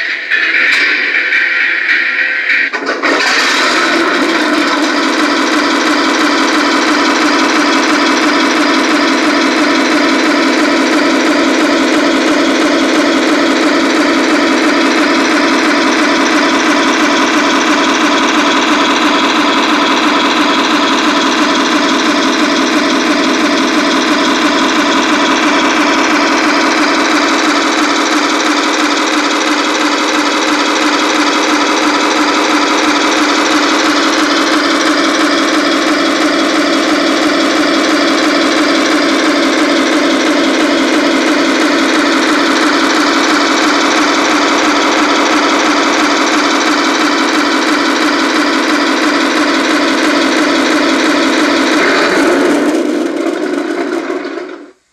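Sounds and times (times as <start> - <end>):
tank engine idling through small speaker: 0.0 - 54.9.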